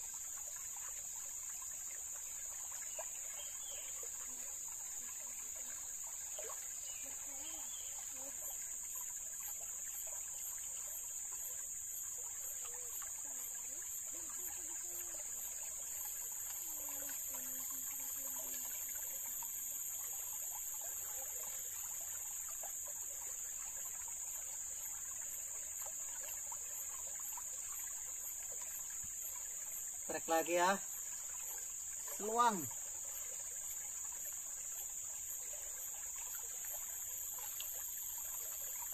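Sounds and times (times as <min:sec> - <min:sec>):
creek water trickling: 0:00.0 - 0:38.9
high-pitched insect drone: 0:00.0 - 0:38.9.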